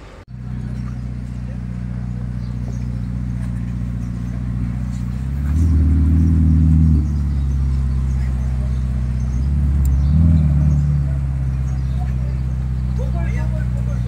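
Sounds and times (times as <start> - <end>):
car engine running: 0.3 - 14.0.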